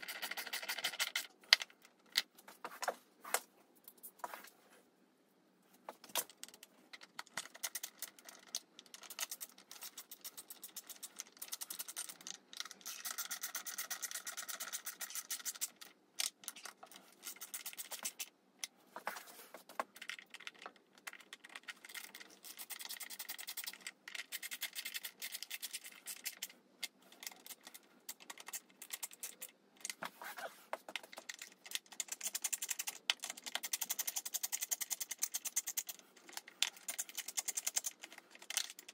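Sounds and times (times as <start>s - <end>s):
plastic parts scratching and clicking: 0.0s - 4.3s, 5.8s - 38.9s.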